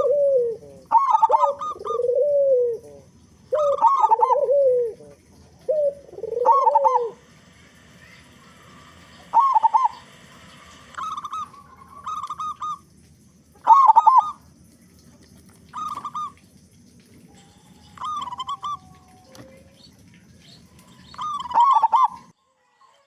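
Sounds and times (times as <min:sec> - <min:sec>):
dove cooing: 0:00.0 - 0:14.8, 0:15.6 - 0:22.3.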